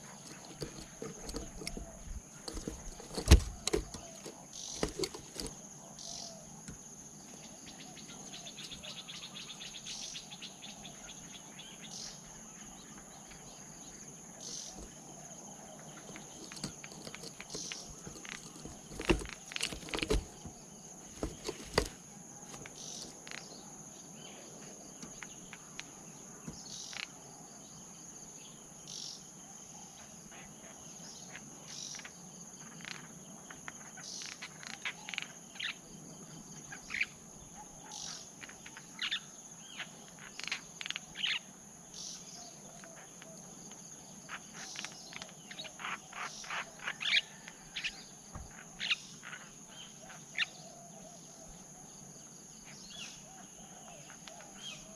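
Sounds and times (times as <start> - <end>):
cricket chirps: 0.0 - 54.9
insects droning: 0.0 - 54.9.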